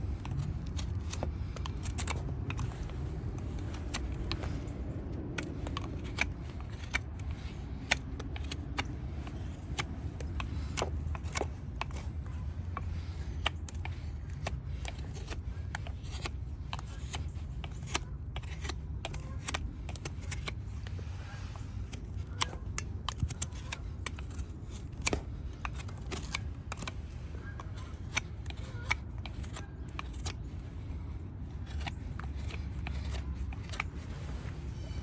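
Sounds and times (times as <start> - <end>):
hand tools clicking and snipping: 0.0 - 35.0.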